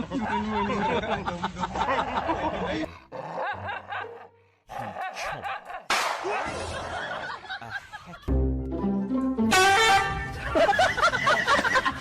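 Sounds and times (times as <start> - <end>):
people chuckling and laughing: 0.0 - 8.9, 10.3 - 12.0.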